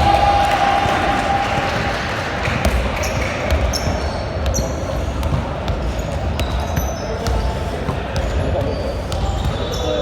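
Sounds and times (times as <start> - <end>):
basketball bouncing: 0.0 - 10.0
din of voices in hall: 0.0 - 10.0
sneakers squeaking on court: 1.7 - 10.0.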